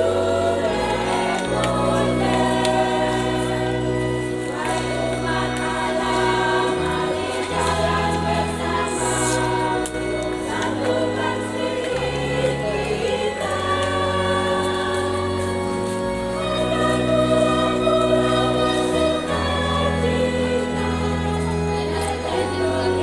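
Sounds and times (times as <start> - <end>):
church choir singing a hymn: 0.0 - 23.0.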